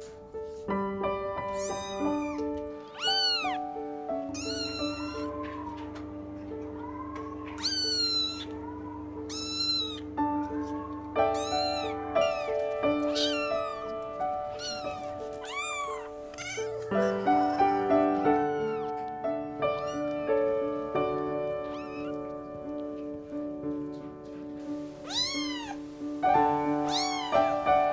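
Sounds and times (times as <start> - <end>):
kittens mewing: 1.5 - 3.6, 4.2 - 20.3, 21.0 - 22.4, 24.9 - 27.8.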